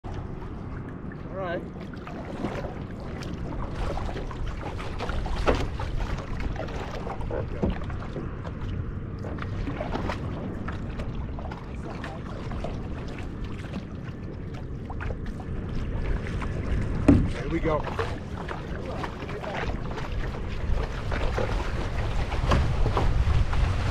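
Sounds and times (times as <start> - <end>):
water slapping against hull: 0.0 - 23.9
wind rumble on microphone: 0.0 - 23.9.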